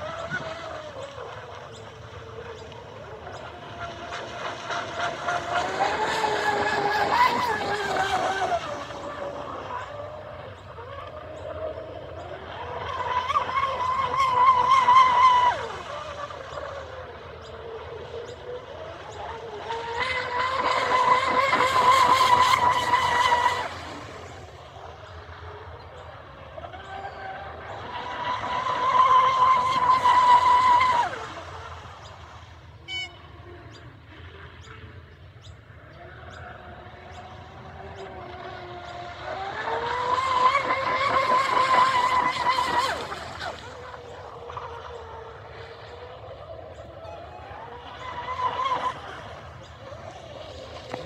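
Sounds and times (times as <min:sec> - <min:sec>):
rc boat motor whine: 0:00.0 - 0:51.0.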